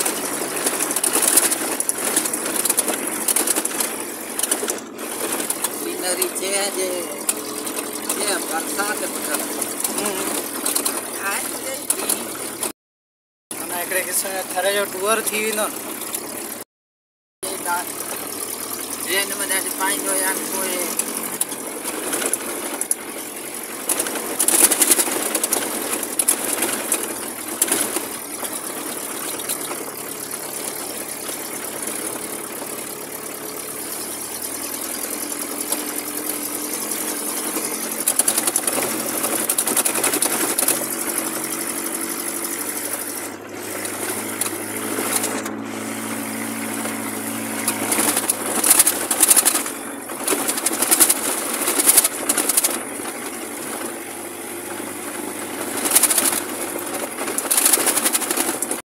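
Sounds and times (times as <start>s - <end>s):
car engine running inside cab: 0.0s - 12.8s, 13.5s - 16.6s, 17.4s - 58.8s.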